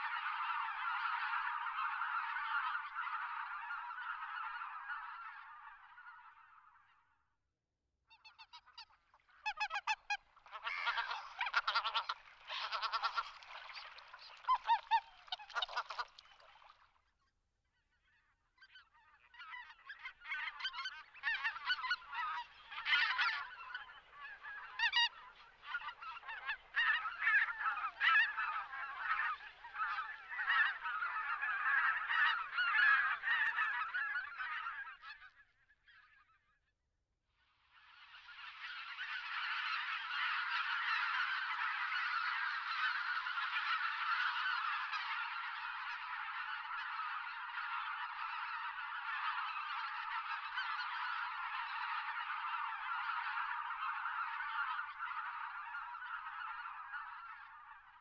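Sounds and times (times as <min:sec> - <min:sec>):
geese honking: 0:00.0 - 0:06.6, 0:08.2 - 0:16.8, 0:19.2 - 0:35.4, 0:38.4 - 0:58.0.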